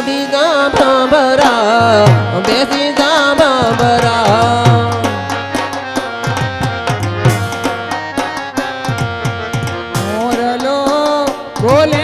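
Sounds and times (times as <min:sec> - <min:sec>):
person singing through microphone: 0:00.0 - 0:12.0
hand drums playing: 0:00.7 - 0:12.0.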